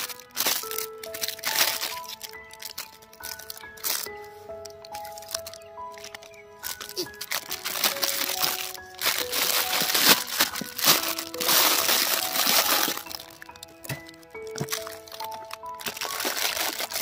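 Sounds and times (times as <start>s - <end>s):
background music with held notes: 0.0s - 17.0s
plastic bag crinkling: 0.0s - 17.0s.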